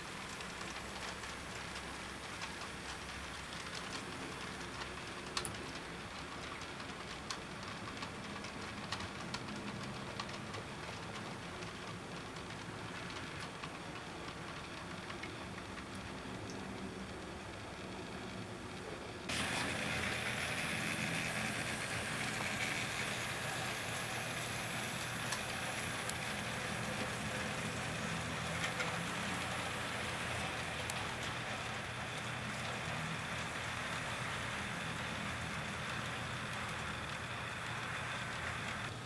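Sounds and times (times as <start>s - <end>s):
model train wheels on rail: 0.0s - 39.0s.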